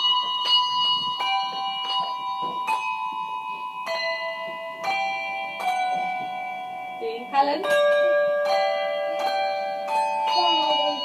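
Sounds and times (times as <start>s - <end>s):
handbells playing slow carol melody: 0.0s - 11.0s.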